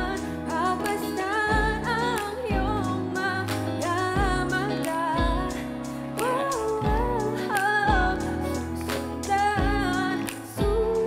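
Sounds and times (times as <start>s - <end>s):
band backing track: 0.0s - 11.0s
woman singing: 0.0s - 11.0s.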